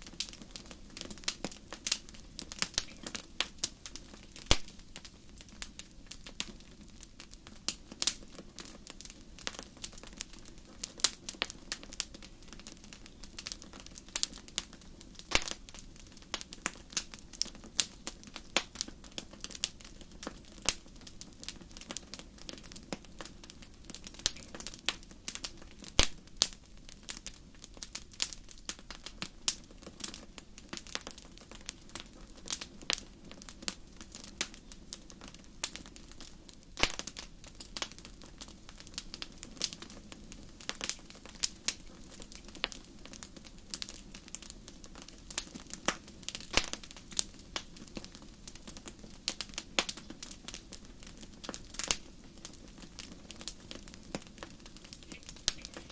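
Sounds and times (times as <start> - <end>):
faint low hiss: 0.0 - 55.9
fire crackling and popping: 0.0 - 55.9.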